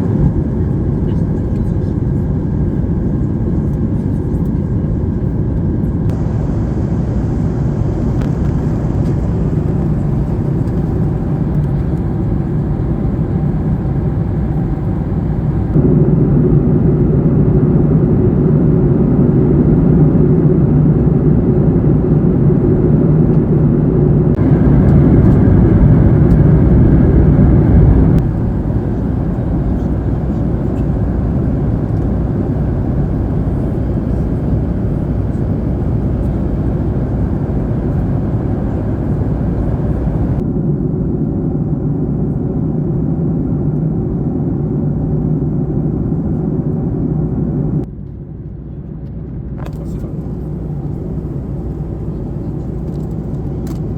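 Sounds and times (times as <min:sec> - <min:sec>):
airplane cabin engine rush: 0:00.0 - 0:53.9.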